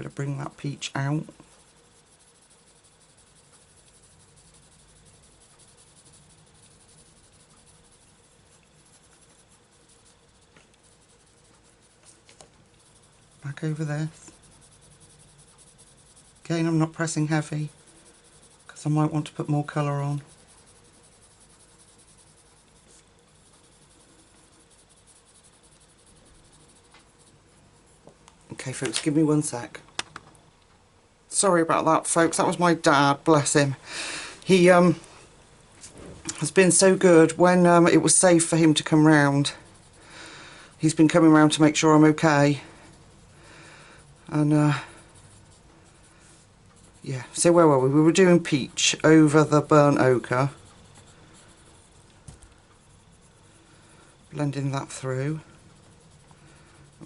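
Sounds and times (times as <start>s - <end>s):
coloured pencil scratching on paper: 0.0s - 29.8s, 31.3s - 33.7s, 35.8s - 57.0s
faint room hiss: 0.0s - 57.0s.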